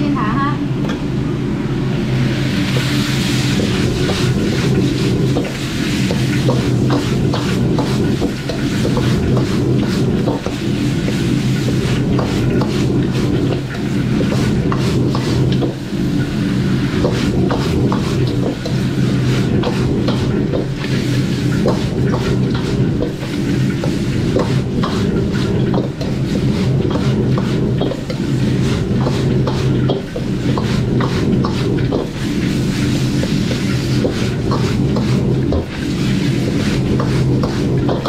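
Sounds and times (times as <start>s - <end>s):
wok burner rumble: 0.0s - 38.0s
metal spatula scraping a wok: 2.5s - 38.0s.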